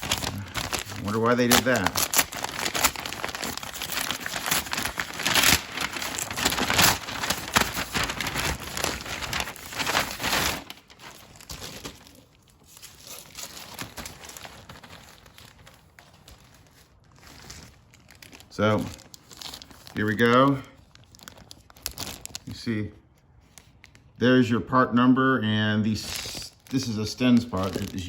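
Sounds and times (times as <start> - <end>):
plastic bags crinkling: 0.0 - 22.6, 26.0 - 28.0.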